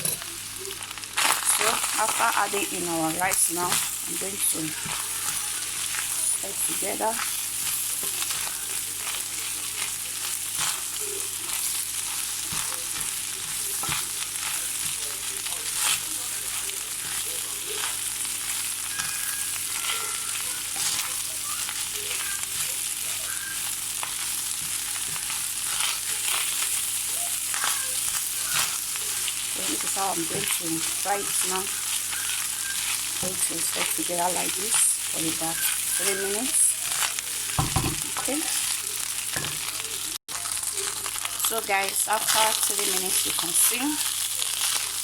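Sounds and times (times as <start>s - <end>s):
food sizzling in a pan: 0.0s - 45.0s.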